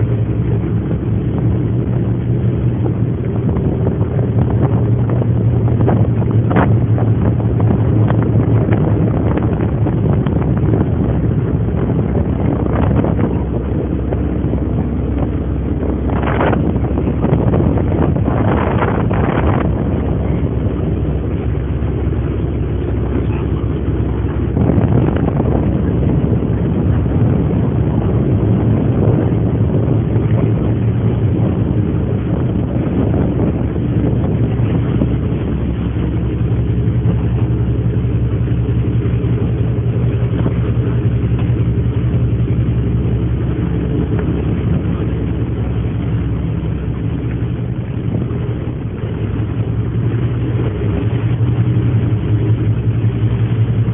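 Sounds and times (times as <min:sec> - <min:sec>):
ship engine droning: 0:00.0 - 0:53.9.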